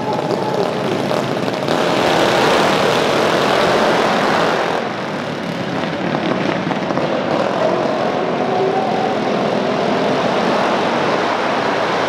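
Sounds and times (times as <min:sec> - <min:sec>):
mini bike engines revving: 0:00.0 - 0:12.0.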